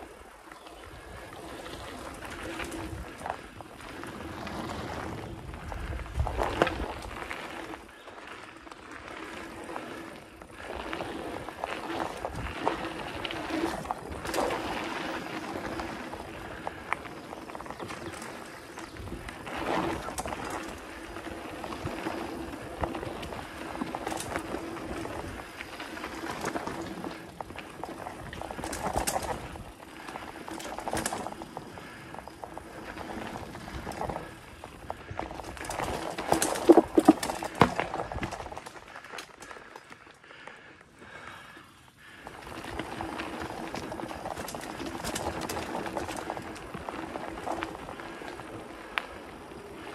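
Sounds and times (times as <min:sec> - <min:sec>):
bike tyres rolling over dirt: 0:00.0 - 0:49.9
bike knocking and rattling: 0:00.5 - 0:49.9.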